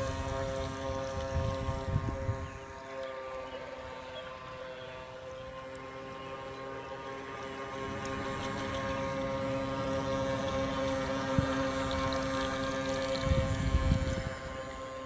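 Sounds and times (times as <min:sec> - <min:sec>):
model boat motor running: 0:00.0 - 0:15.0.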